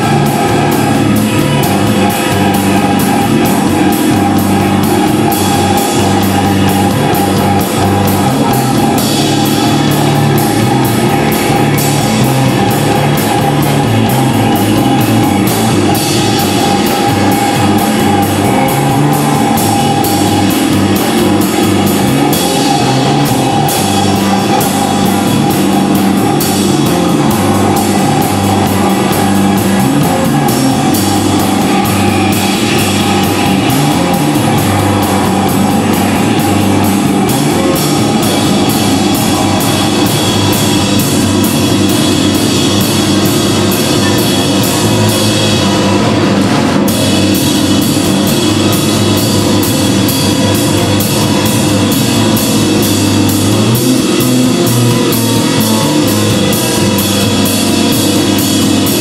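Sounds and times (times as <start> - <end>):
drum kit playing: 0.0 - 59.0
electric bass: 0.0 - 59.0
electric guitar: 0.0 - 59.0
electronic loops: 0.0 - 59.0.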